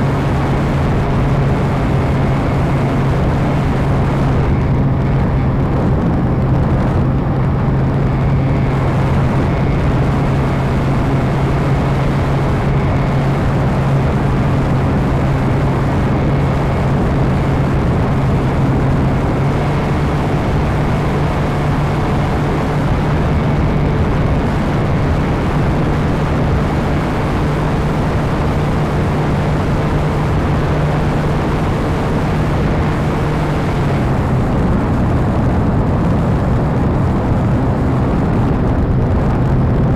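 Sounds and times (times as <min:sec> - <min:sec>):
model airplane motor and propeller: 0:00.0 - 0:39.9
wind noise: 0:00.0 - 0:39.9.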